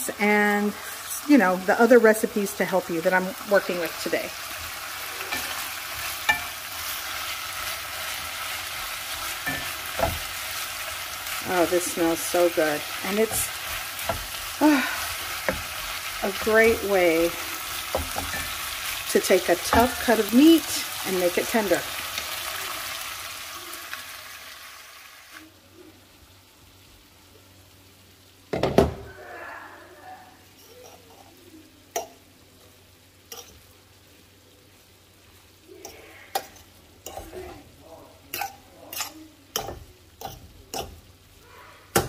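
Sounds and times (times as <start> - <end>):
beef and onions sizzling in a pan: 0.0 - 42.0.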